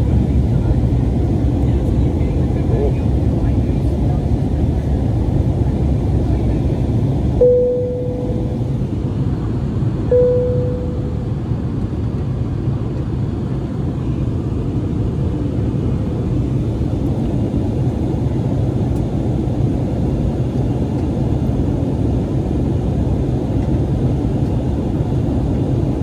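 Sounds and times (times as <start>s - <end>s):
jet cabin engine and airflow rumble: 0.0s - 26.0s.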